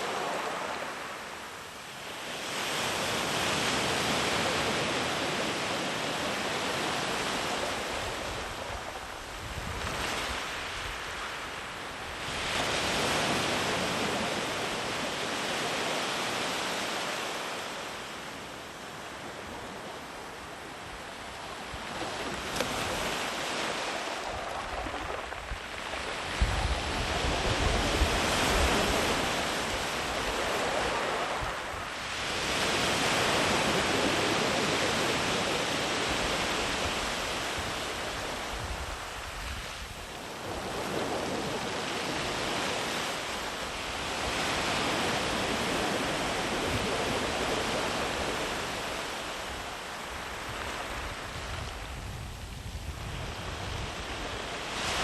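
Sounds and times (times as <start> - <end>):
sea waves washing up beach: 0.0 - 55.0.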